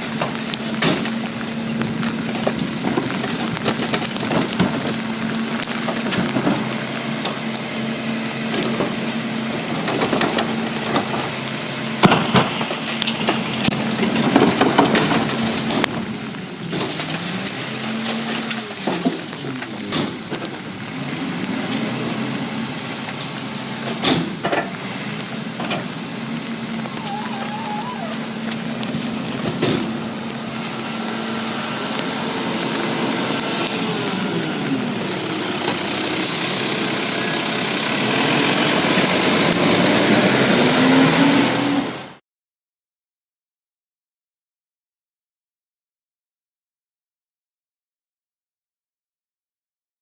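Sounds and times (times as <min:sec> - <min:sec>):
garbage truck engine whining: 0:00.0 - 0:42.2.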